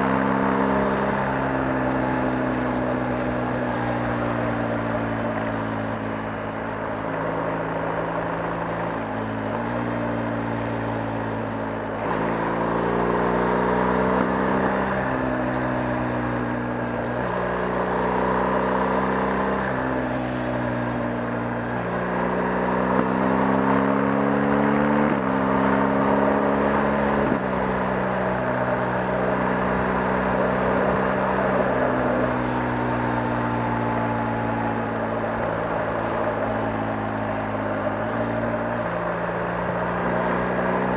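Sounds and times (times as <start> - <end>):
motorcycle engine changing gears: 0.0 - 40.9.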